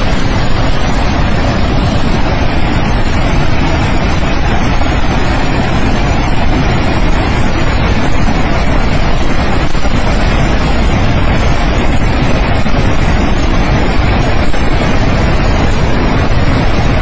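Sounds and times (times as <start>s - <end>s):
river torrent rushing: 0.0s - 17.0s.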